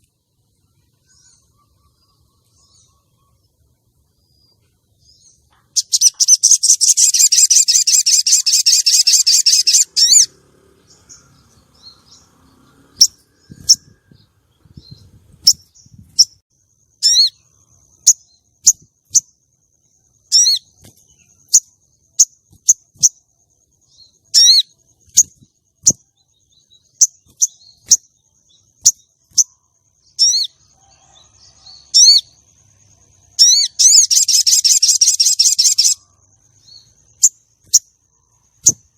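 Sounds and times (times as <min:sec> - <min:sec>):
bird sharp chirps: 0:00.0 - 0:38.9.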